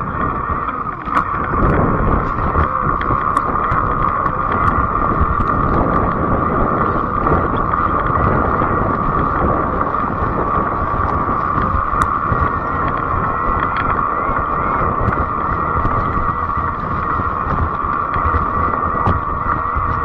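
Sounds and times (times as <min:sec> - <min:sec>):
electric bike motor whine: 0:00.0 - 0:20.0
tyre noise: 0:00.0 - 0:20.0
wind on microphone: 0:00.0 - 0:20.0
light ticks: 0:00.4 - 0:20.0.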